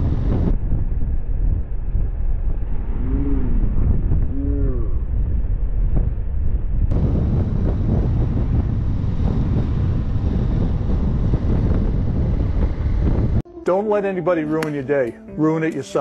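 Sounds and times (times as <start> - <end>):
motorcycle and road noise rumbling: 0.0 - 13.4
wind buffeting microphone: 0.0 - 13.4.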